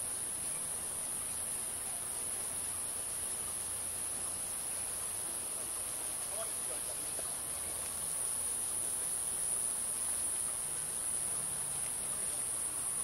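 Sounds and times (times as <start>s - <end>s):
cicada buzzing: 0.0s - 13.0s.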